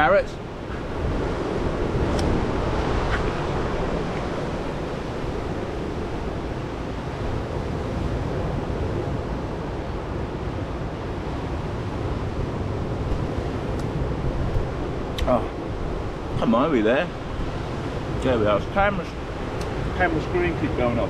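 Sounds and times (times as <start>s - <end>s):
waves breaking on a beach: 0.0s - 21.0s
wind rumbling on microphone: 0.0s - 21.0s.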